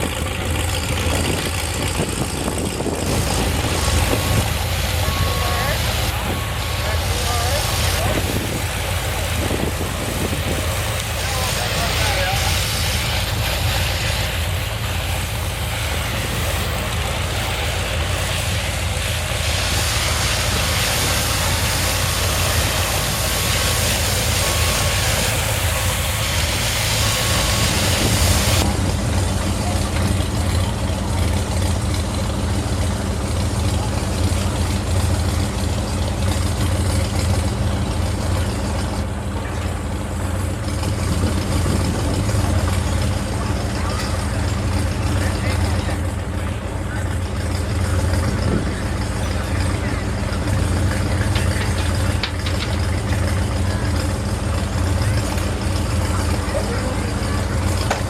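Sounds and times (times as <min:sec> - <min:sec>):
heavy truck engine running: 0:00.0 - 0:58.0
water spraying from hose: 0:00.0 - 0:58.0.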